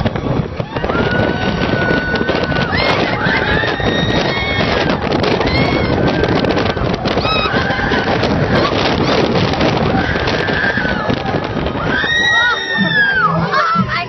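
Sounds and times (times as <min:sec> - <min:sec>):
roller coaster rumble: 0:00.0 - 0:14.0
wind buffeting microphone: 0:00.0 - 0:14.0.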